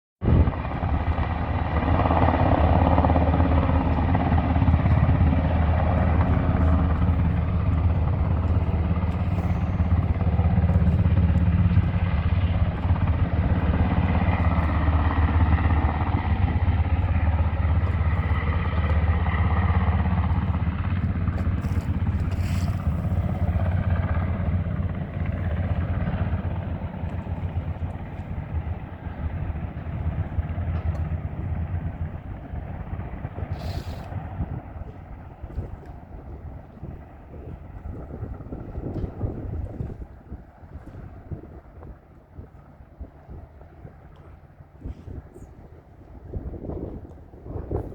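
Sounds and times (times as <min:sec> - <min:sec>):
helicopter rotor and engine: 0:00.2 - 0:47.9.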